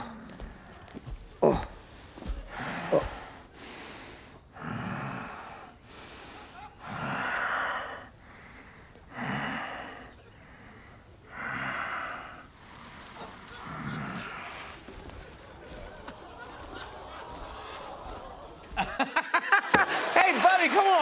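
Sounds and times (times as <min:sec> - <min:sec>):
breathy huffing grunts: 0:00.0 - 0:18.9.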